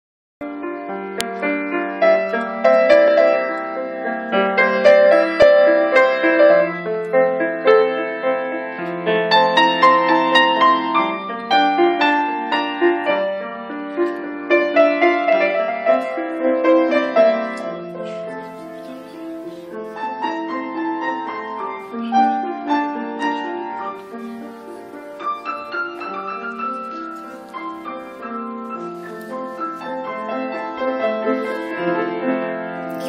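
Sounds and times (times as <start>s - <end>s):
solo grand piano melody: 0.4s - 33.0s.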